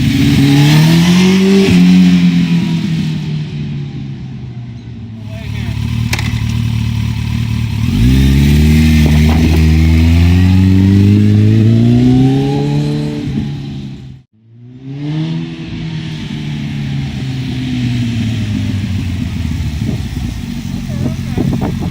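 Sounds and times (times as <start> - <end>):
motorcycle engine revving: 0.0 - 3.3, 5.2 - 21.9.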